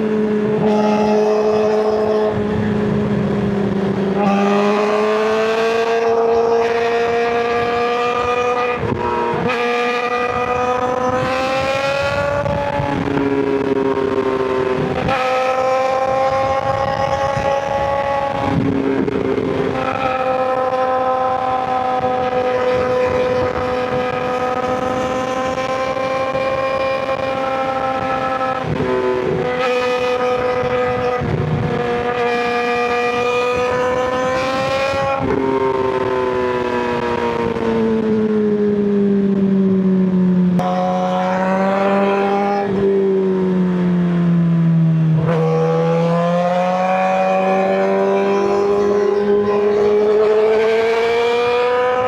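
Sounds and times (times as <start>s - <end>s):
motorcycle engine at high revs: 0.0s - 52.0s.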